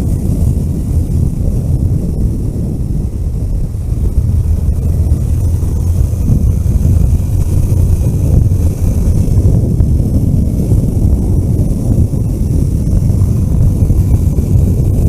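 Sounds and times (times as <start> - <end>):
vehicle driving on road: 0.0 - 15.0.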